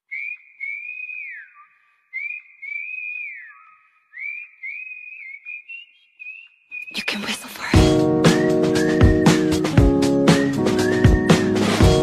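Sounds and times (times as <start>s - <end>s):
whistled melody: 0.0s - 12.0s.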